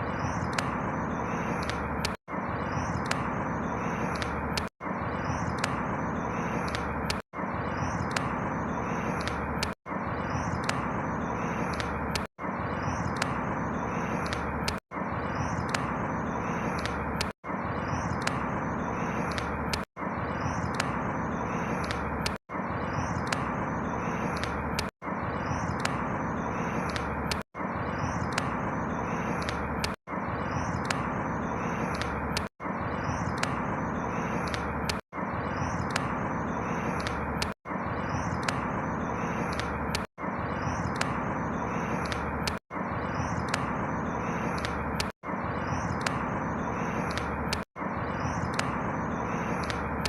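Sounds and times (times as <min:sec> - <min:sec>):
faint bird chirps: 0:00.0 - 0:50.0.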